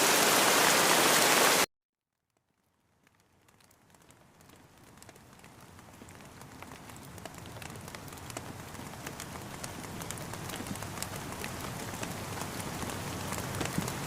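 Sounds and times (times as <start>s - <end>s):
rain with drop ticks: 2.3s - 14.0s.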